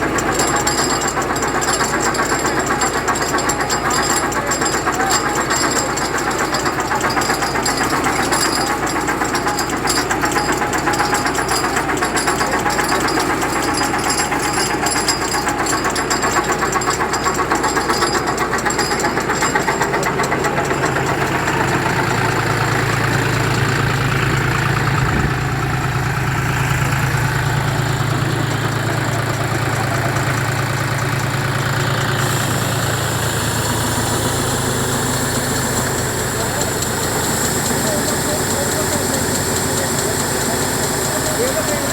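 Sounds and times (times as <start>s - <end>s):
flour mill mechanical clatter: 0.0s - 41.9s
tractor engine running: 0.0s - 41.9s.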